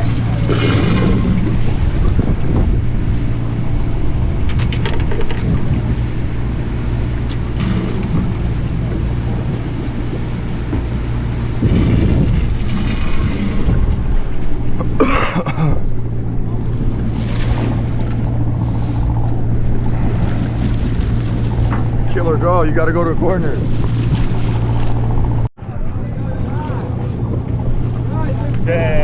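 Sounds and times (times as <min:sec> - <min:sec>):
wind on microphone: 0:00.0 - 0:15.0, 0:15.8 - 0:29.0
boat engine humming: 0:00.0 - 0:29.0.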